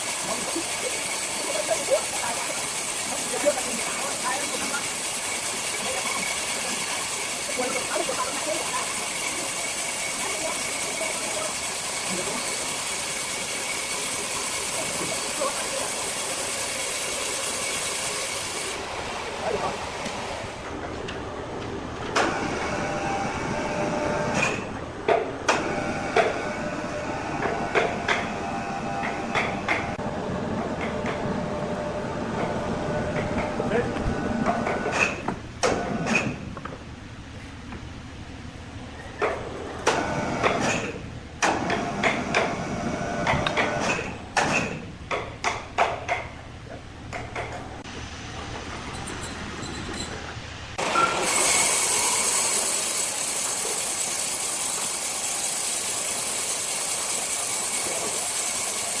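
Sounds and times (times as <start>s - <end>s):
sawmill machinery running: 0.0s - 36.4s, 39.2s - 44.4s, 47.1s - 59.0s.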